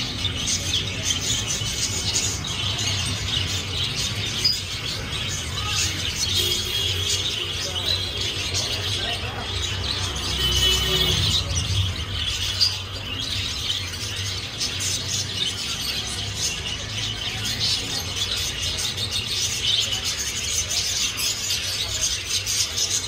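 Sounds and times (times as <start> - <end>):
finches chirping: 0.0 - 23.0.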